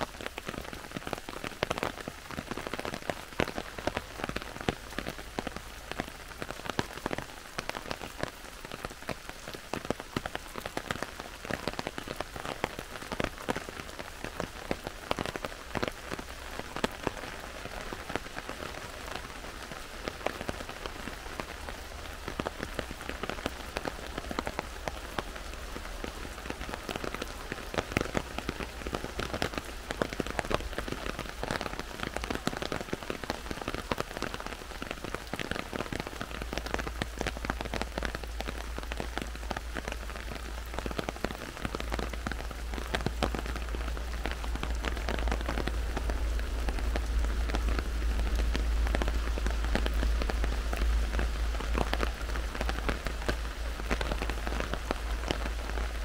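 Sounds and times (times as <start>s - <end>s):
heavy rain on forest canopy: 0.0s - 56.0s.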